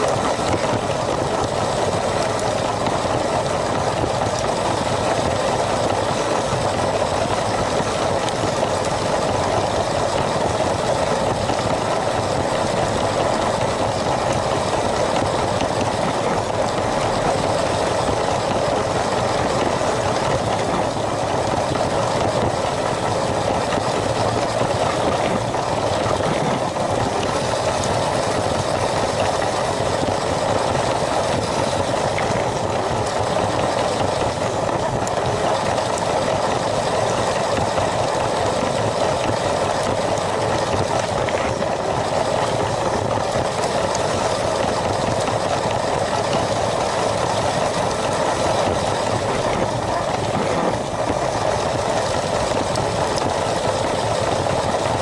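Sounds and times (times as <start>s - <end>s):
toy train motor and wheels running: 0.0s - 55.0s.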